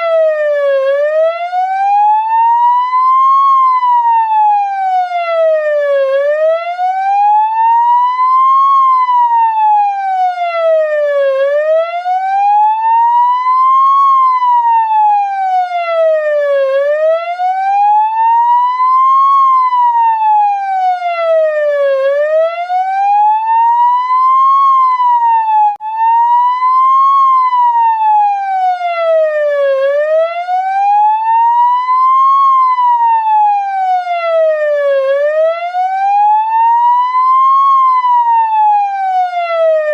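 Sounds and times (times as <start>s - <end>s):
ambulance siren wailing: 0.0s - 39.9s.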